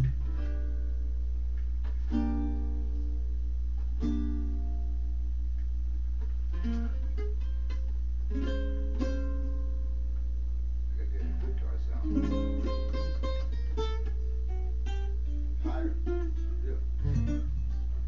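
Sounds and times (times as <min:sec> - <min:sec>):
plucked string chords: 0:00.0 - 0:01.2, 0:01.8 - 0:05.2, 0:06.2 - 0:10.1, 0:11.2 - 0:18.0
low electrical hum: 0:00.0 - 0:18.0.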